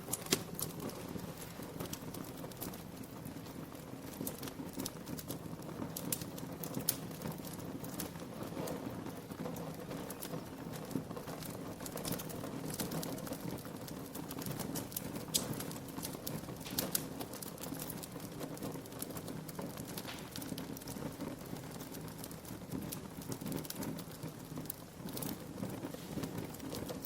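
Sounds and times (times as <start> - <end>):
low rumble of flame: 0.0 - 27.0
wood fire crackling: 0.0 - 27.0.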